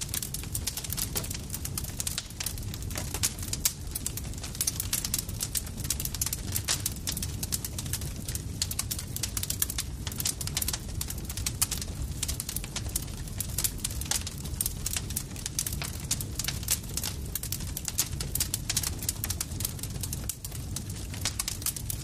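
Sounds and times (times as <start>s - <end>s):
campfire crackling and popping: 0.0s - 22.0s
low rumble of fire: 0.0s - 22.0s.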